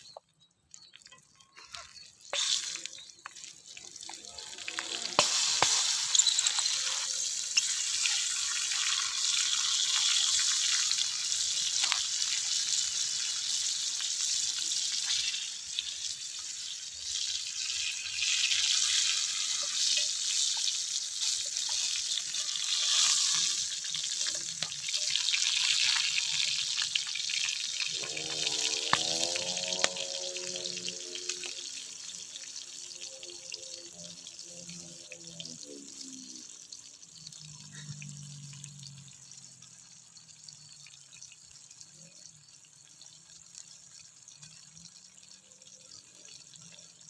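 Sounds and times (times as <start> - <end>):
hot oil sizzling in a frying pan: 0.0 - 47.0.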